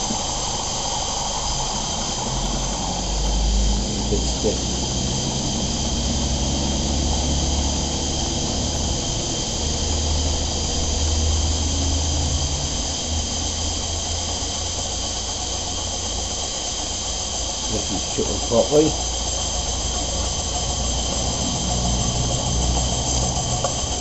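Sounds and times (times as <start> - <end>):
low hum: 0.0 - 16.4, 17.6 - 24.0
steam engine hissing: 0.0 - 24.0.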